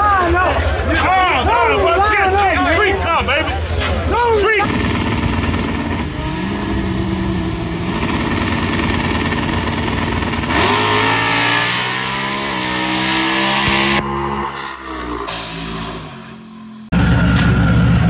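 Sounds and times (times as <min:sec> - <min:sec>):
drag racing engines revving: 0:00.1 - 0:18.0.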